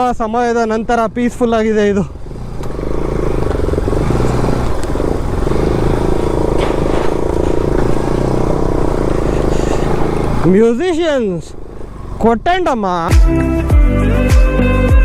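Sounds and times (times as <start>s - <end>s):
motorcycle engine running: 1.8s - 14.5s.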